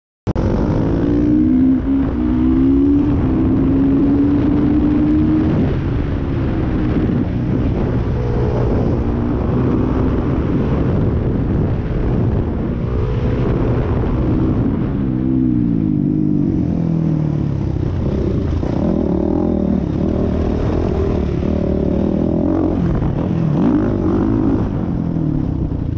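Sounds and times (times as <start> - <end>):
motorcycle engine revving: 0.3 - 25.9
wind on microphone: 0.3 - 25.9.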